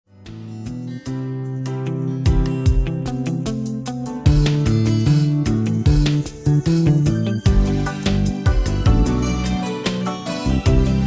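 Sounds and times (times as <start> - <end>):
instrumental music with steady beat: 0.1 - 11.0.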